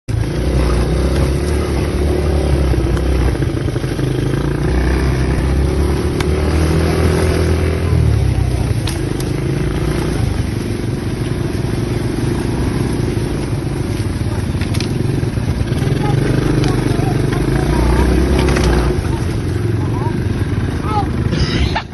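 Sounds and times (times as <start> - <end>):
atv engine running: 0.1 - 21.9.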